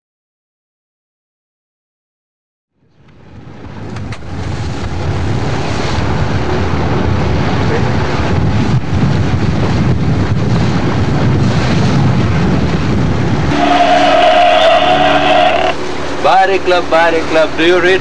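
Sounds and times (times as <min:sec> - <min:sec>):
wind: 0:02.7 - 0:18.0
boat engine rumble: 0:02.8 - 0:18.0
waves: 0:02.8 - 0:18.0.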